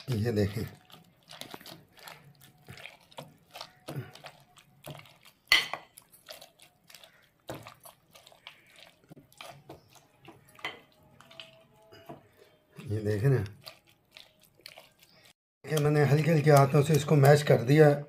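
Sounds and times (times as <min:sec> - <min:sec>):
strawberries squishing: 0:00.0 - 0:17.9.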